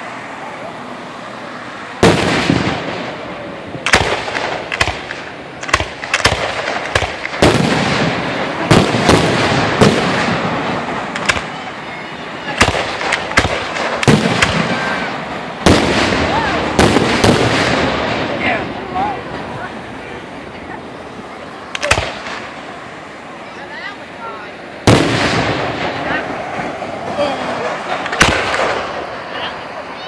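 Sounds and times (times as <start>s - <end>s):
fireworks crackling: 1.6s - 30.0s
fireworks bangs: 2.0s - 21.0s, 21.6s - 23.1s, 24.8s - 30.0s.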